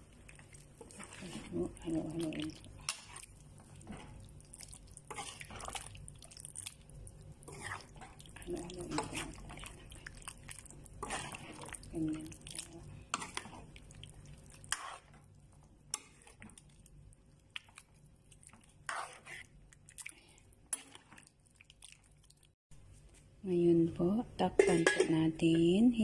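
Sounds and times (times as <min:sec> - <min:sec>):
spoon stirring thick stew: 0:00.0 - 0:22.2.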